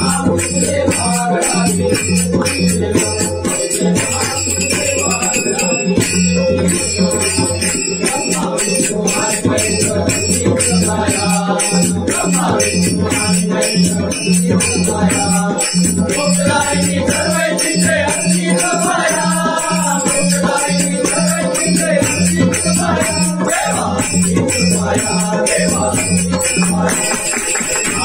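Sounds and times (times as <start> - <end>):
devotional song with percussion: 0.0 - 28.0.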